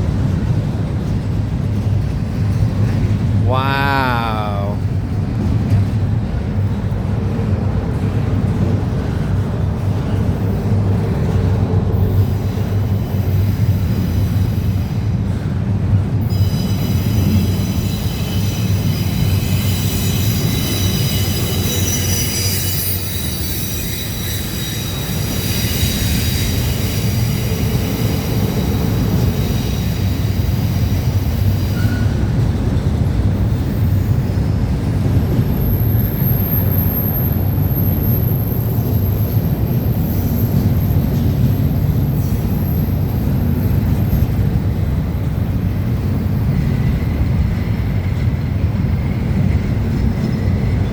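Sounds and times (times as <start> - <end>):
freight train rumbling past: 4.8 - 50.9.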